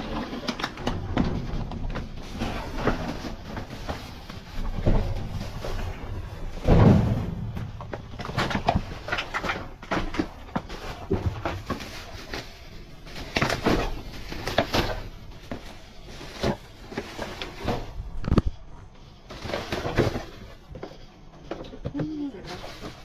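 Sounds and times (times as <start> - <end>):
plastic bags rustling: 0.0 - 23.0.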